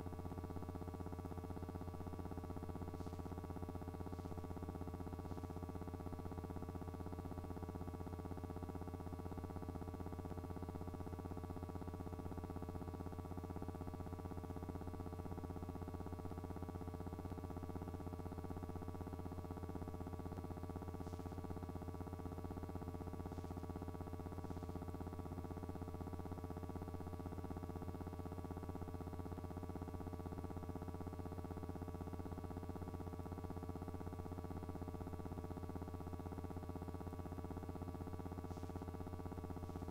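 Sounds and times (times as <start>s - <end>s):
electrical hum with buzz: 0.0s - 39.9s.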